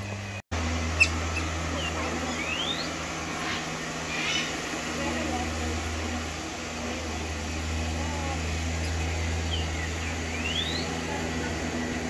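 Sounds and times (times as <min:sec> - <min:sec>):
constant rushing background: 0:00.0 - 0:12.0
steady low hum: 0:00.0 - 0:12.0.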